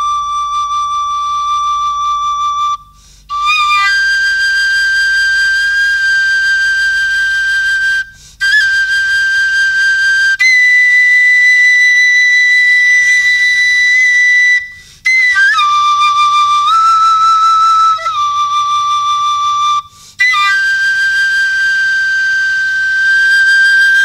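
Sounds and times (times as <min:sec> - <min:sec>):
flute playing held notes: 0:00.0 - 0:24.0.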